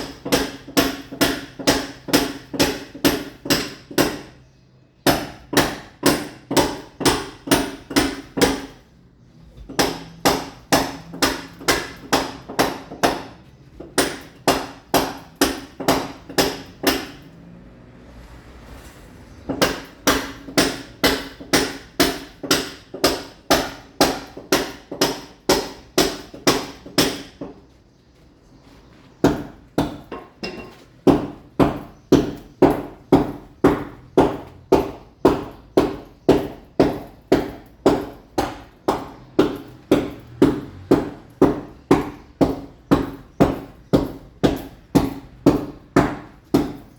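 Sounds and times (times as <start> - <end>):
hammer striking a wall: 0.0 - 4.4, 5.0 - 8.9, 9.5 - 17.3, 19.5 - 27.8, 29.2 - 46.9.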